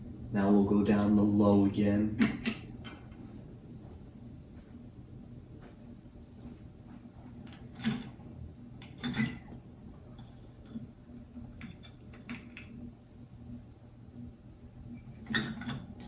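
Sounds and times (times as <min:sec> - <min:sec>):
ceiling fan motor humming: 0:00.0 - 0:16.0
fan clicks and ticks: 0:00.3 - 0:04.8, 0:07.0 - 0:16.0.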